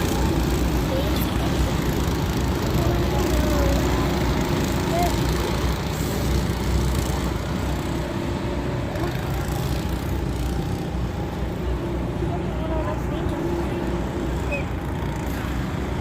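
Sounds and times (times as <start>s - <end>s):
go-kart engines droning: 0.0s - 16.0s.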